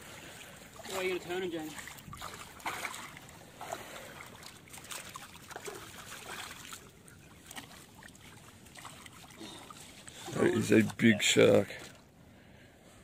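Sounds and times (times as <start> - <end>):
shallow water splashing: 0.0 - 12.2.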